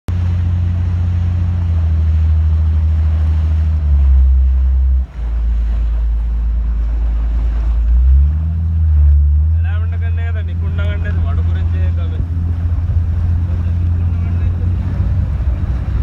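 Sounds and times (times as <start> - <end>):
motorboat engine droning: 0.1 - 16.0
rushing water: 0.1 - 16.0
wind: 0.1 - 16.0.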